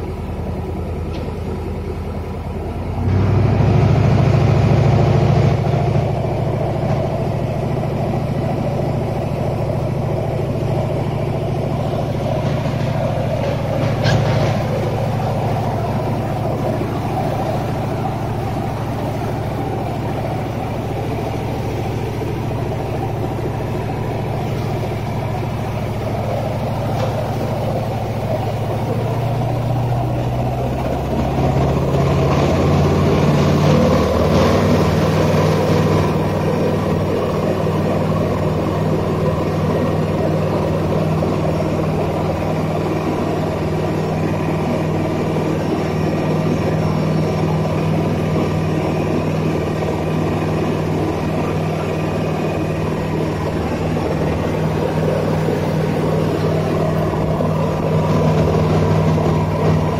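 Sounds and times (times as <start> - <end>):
boat engine running: 0.0 - 59.9
rushing water from wake: 2.9 - 59.9.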